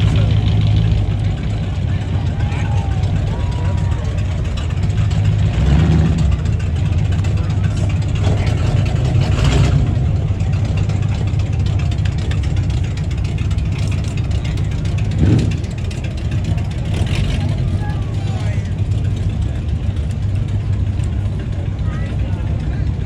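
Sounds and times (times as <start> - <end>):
car engines rumbling: 0.0 - 23.0.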